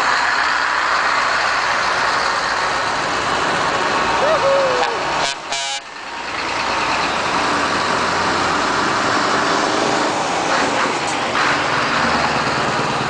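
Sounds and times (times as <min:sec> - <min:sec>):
diesel truck driving past: 0:00.0 - 0:13.0.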